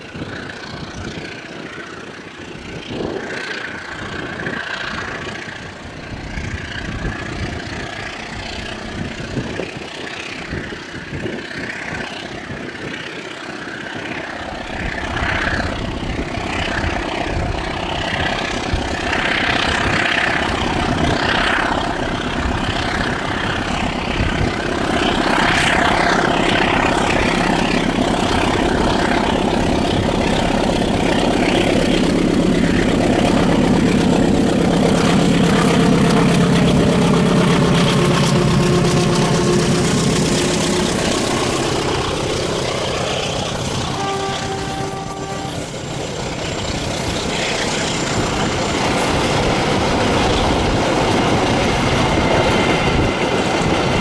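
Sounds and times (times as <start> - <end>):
locomotive engine working hard: 0.0 - 54.0
train coaches rumbling past: 0.0 - 54.0.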